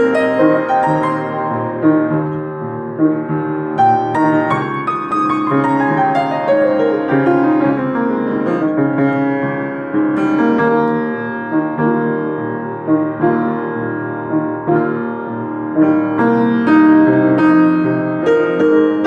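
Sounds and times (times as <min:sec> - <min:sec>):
solo piano: 0:00.0 - 0:19.0.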